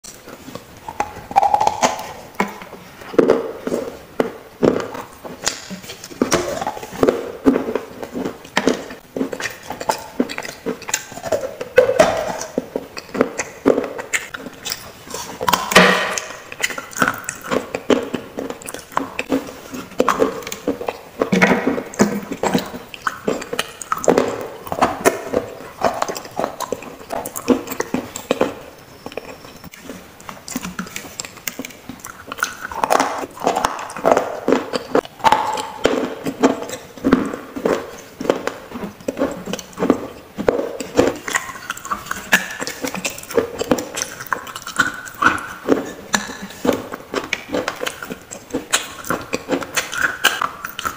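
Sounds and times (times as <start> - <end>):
crunching baked clay: 0.0 - 50.9.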